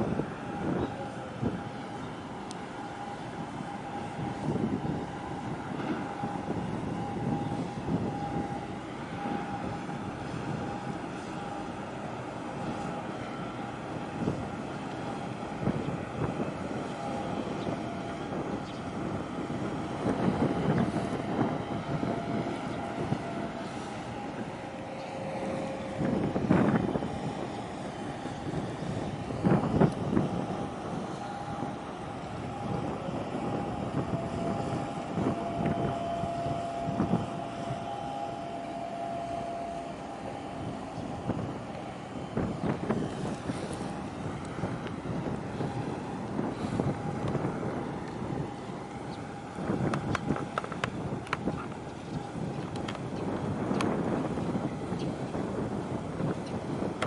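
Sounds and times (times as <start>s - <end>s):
faint steady hum: 0.0s - 57.0s
ship engine rumble: 0.0s - 57.0s
thin steady whine: 0.0s - 57.0s
water wash: 0.0s - 57.0s
wind gusting on microphone: 0.0s - 57.0s.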